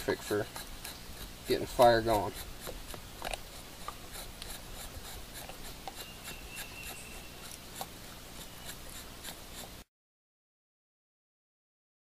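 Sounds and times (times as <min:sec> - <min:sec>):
knife blade scraping wood: 0:00.0 - 0:09.9.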